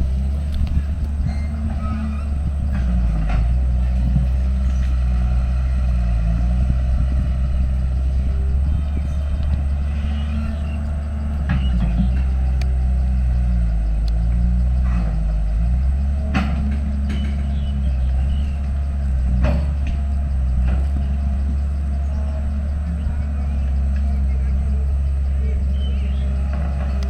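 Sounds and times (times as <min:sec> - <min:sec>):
earthmoving machine diesel engine: 0:00.0 - 0:27.0.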